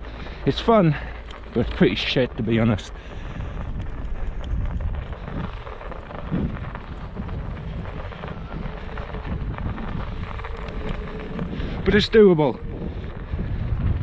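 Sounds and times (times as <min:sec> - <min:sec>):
tyres in snow: 0:00.0 - 0:14.0
wind rumbling on microphone: 0:00.0 - 0:14.0.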